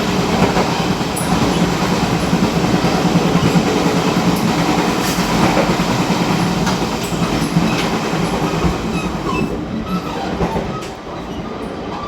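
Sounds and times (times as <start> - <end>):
train clacks: 0.0 - 12.0
train rumbling and rattling: 0.0 - 12.0.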